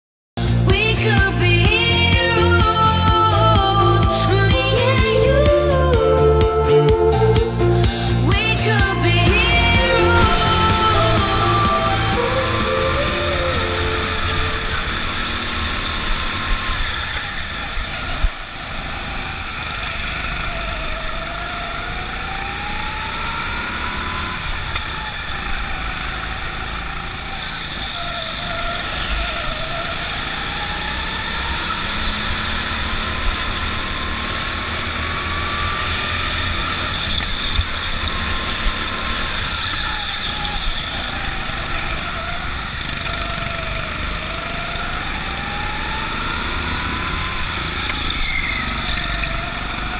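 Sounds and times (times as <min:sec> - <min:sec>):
kart rumbling on track: 0:00.4 - 0:49.9
go-kart motor revving: 0:07.1 - 0:49.9.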